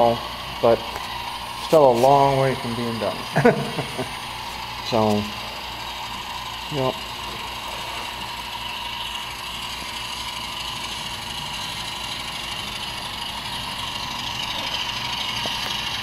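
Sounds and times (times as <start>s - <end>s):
steady machine hum with hiss: 0.0s - 16.0s.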